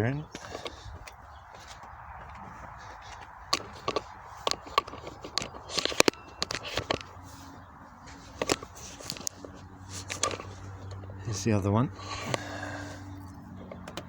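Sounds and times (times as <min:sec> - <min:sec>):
hands handling car parts: 0:00.0 - 0:11.2, 0:12.0 - 0:14.0.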